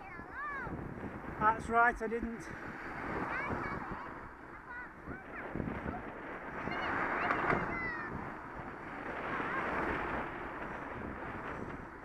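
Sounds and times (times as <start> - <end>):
wind noise on microphone: 0.0 - 12.0
motor traffic overtaking: 0.2 - 12.0.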